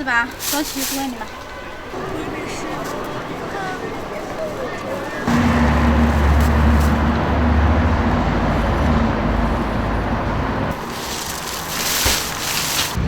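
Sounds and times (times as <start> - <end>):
car engine and road noise: 1.9 - 13.0.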